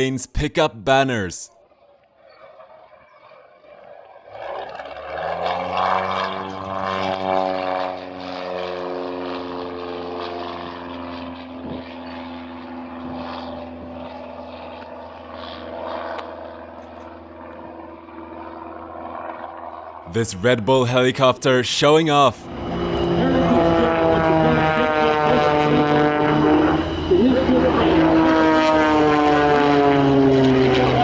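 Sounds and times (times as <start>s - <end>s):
propeller plane engine passing: 3.0s - 20.1s, 22.4s - 31.0s.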